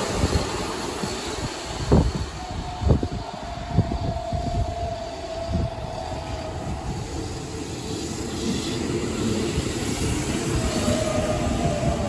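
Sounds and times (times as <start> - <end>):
train wheels rumbling on rails: 0.0 - 12.0
train whine: 0.0 - 12.0.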